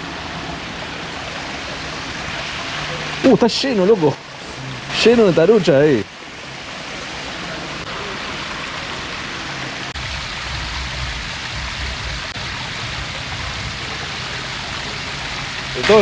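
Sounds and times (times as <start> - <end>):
creek water rushing over concrete: 0.0 - 16.0.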